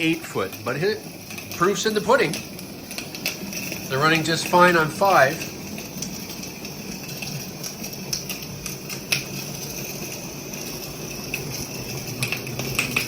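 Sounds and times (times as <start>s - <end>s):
steam locomotive hiss: 0.0s - 13.0s.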